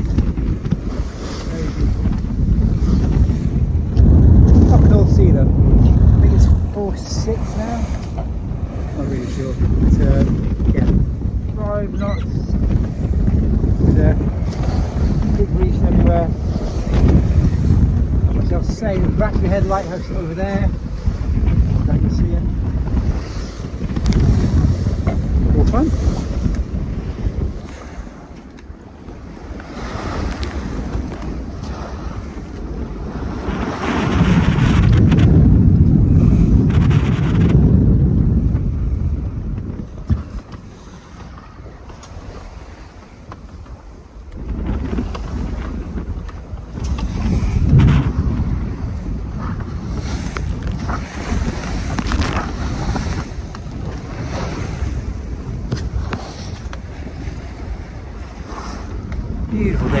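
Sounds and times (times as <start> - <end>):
water rushing along hull: 0.0 - 60.0
wind buffeting microphone: 0.0 - 60.0.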